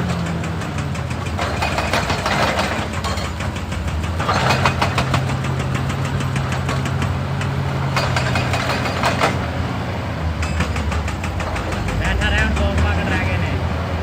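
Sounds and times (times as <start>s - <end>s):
hydraulic breaker hammering rock: 0.0s - 13.7s
diesel engine running: 0.0s - 14.0s.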